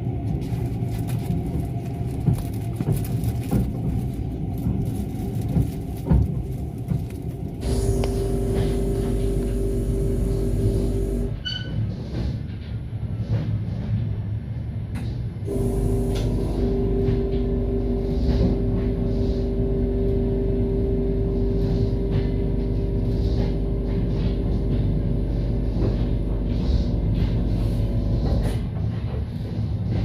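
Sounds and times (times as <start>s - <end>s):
droning hum: 0.0s - 12.2s, 15.0s - 30.0s
train carriage rumble: 0.0s - 30.0s.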